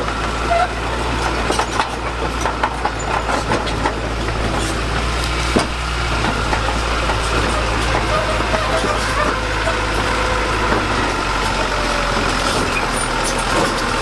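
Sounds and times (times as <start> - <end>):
diesel engine running: 0.0 - 14.0
metal knocks and clanks: 0.0 - 14.0.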